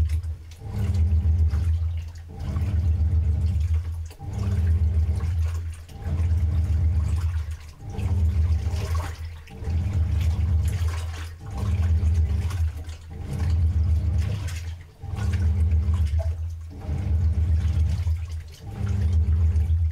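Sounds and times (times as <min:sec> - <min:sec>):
low motor hum: 0:00.0 - 0:19.9
washing machine water sloshing: 0:00.0 - 0:19.9.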